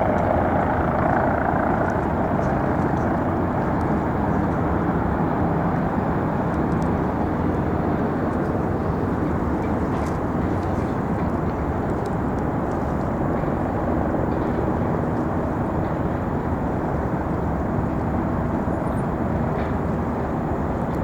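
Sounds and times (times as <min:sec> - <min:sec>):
faint engine hum: 0:00.0 - 0:21.0.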